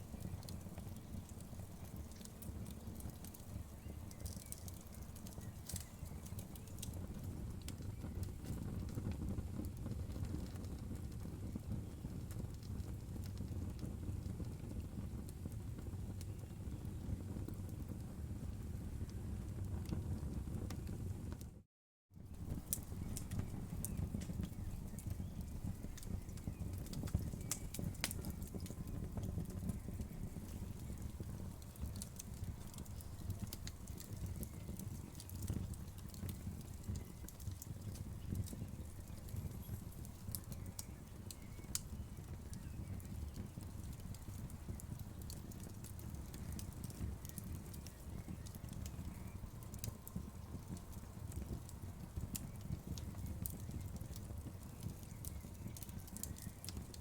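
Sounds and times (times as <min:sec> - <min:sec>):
wood fire crackling: 0:00.0 - 0:21.6, 0:22.2 - 0:57.0.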